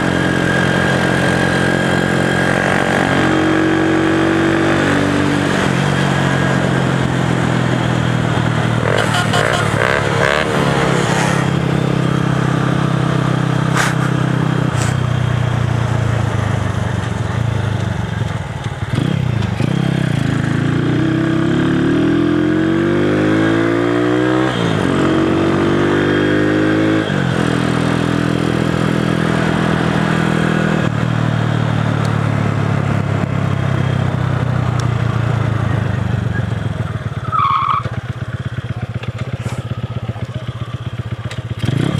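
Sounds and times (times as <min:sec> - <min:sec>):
motorcycle engines racing: 0:00.0 - 0:41.9.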